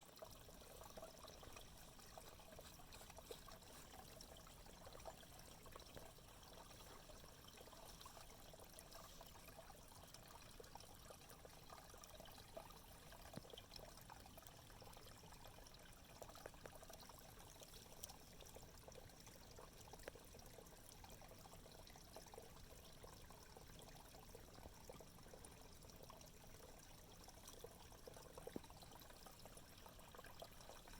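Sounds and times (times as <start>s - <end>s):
faint creek water trickling: 0.0s - 30.9s.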